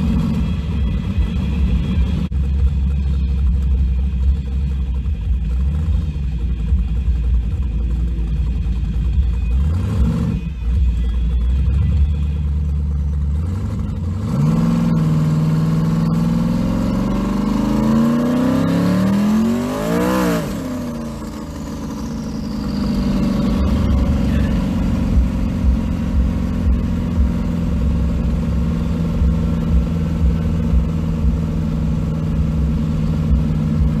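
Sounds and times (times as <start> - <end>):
truck engine idling and accelerating: 0.0 - 34.0.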